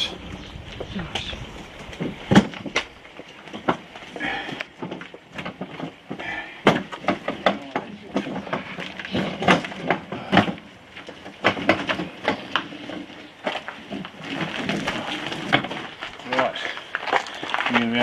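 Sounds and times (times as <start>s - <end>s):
footsteps on gravel: 0.0s - 18.0s
hand truck rattling over gravel: 0.0s - 18.0s
knocks and crunches: 0.8s - 18.0s.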